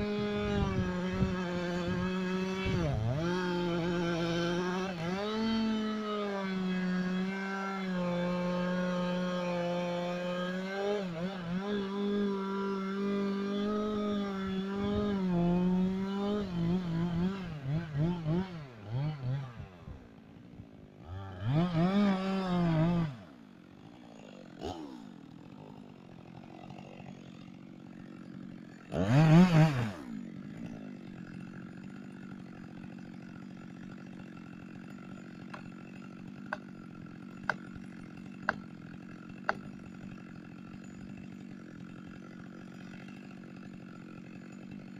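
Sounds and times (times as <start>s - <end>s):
chainsaw running: 0.0s - 44.9s.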